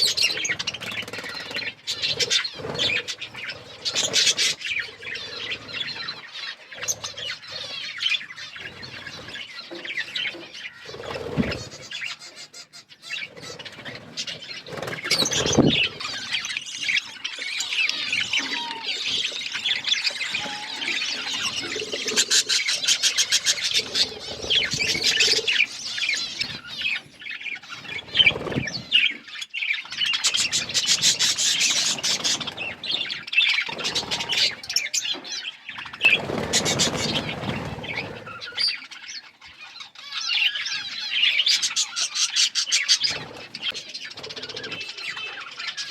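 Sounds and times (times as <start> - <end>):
bird squeals: 0.0 - 45.9
birds chirping and chattering: 0.0 - 45.9.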